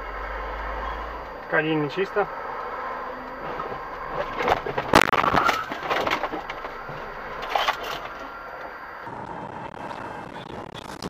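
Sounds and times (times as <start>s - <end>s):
car road noise: 0.0s - 11.0s.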